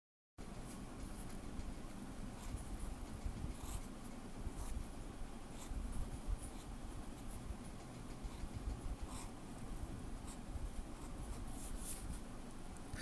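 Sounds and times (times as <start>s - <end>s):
pen nib scratching on paper: 0.5s - 12.3s.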